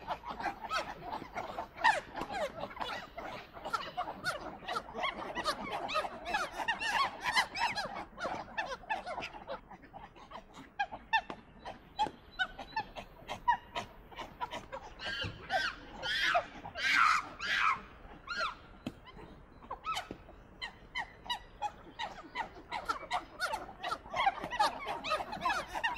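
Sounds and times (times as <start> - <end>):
monkeys chirping calls: 0.0 - 25.9.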